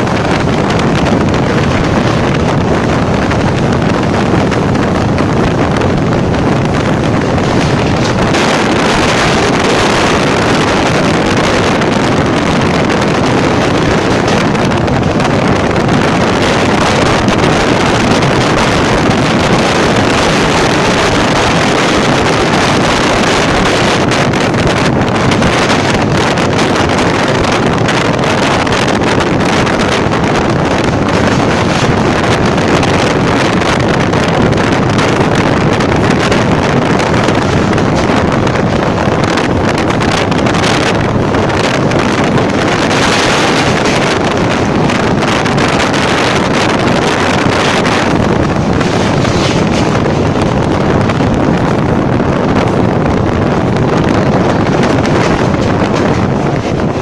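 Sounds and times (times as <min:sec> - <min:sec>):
heavy wind on microphone: 0:00.0 - 0:57.0
train wheels rumbling on bridge: 0:00.0 - 0:57.0.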